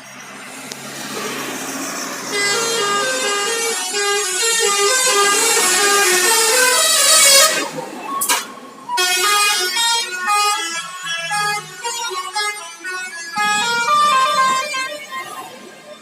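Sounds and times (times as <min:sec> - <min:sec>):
musical bus air horn tune: 0:02.2 - 0:15.5.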